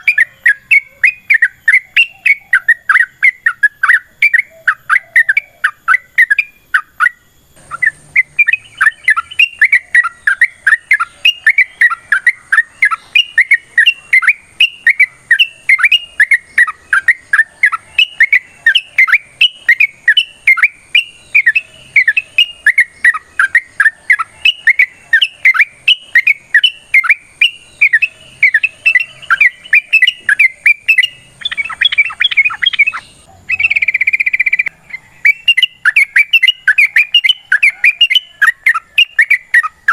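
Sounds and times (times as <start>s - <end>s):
bird chirping and chattering: 0.0s - 39.9s
buzzy bird trill: 0.0s - 39.9s.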